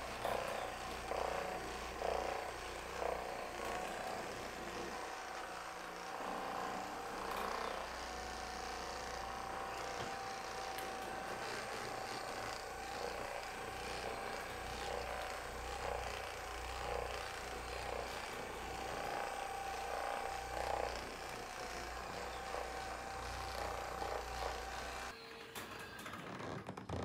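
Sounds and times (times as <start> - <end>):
fast hammering hum: 0.0 - 25.2
massage gun motor whine: 0.0 - 27.0.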